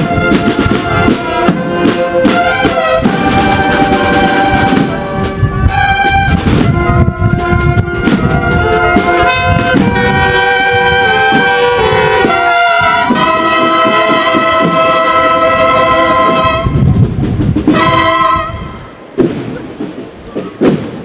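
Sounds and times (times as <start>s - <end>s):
brass band playing: 0.0s - 19.6s.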